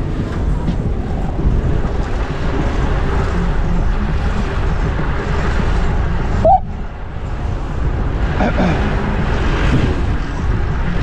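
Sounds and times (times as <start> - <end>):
road and traffic noise: 0.0 - 11.0
wind rushing on microphone: 0.0 - 11.0.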